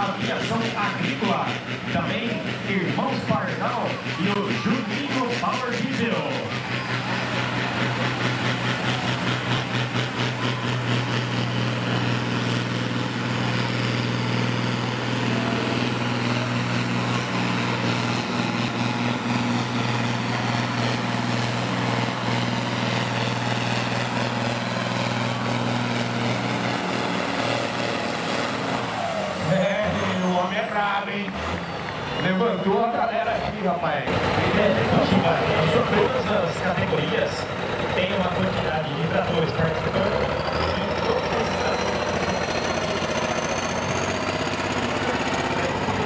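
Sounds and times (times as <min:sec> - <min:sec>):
tractor engine under heavy load: 0:00.0 - 0:46.0.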